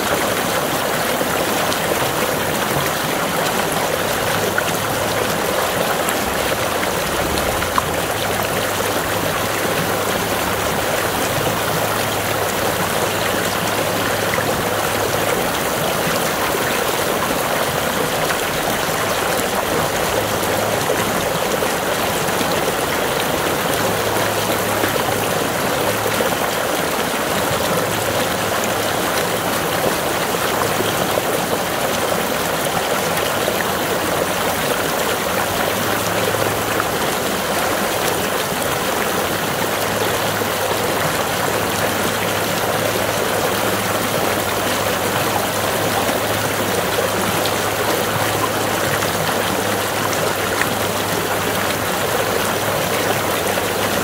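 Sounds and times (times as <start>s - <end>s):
water pouring and splashing: 0.0s - 54.0s.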